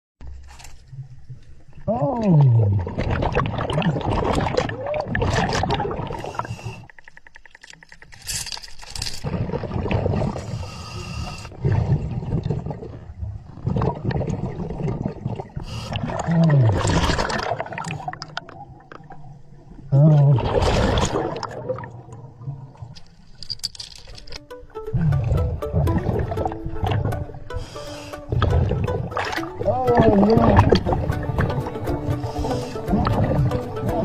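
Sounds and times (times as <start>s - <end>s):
diver bubbles gurgling: 1.6s - 7.4s, 9.2s - 22.9s, 24.9s - 34.0s.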